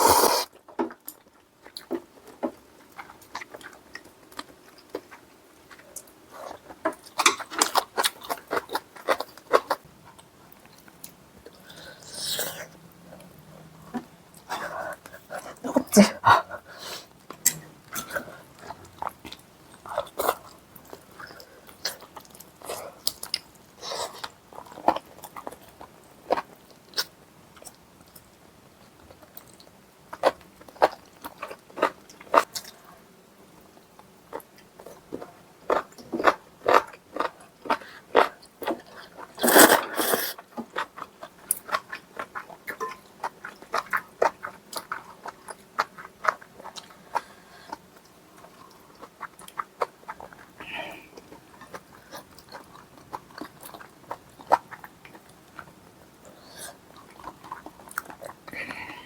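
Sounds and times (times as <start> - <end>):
person chewing food: 0.0 - 32.9, 33.6 - 59.0.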